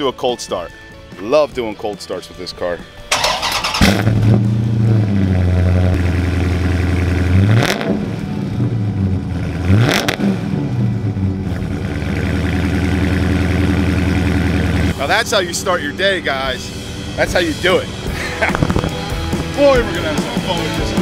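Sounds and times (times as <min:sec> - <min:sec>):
car engine starting and idling: 0:03.0 - 0:20.7
car engine revving: 0:03.1 - 0:20.8.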